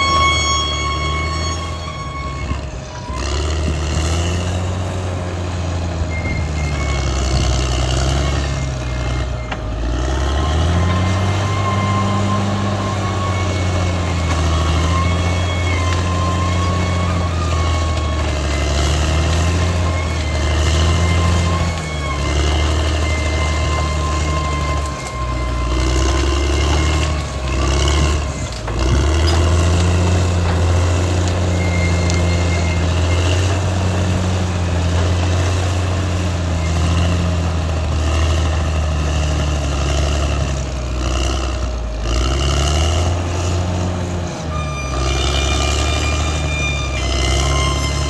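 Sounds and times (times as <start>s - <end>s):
bulldozer diesel engine: 0.0s - 48.0s
high whine: 0.0s - 48.0s.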